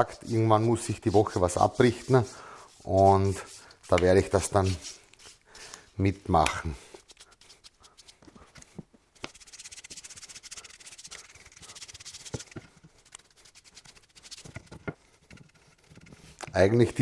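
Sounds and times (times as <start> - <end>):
paintbrush scrubbing wood: 0.0 - 6.2, 7.0 - 8.2, 9.2 - 17.0.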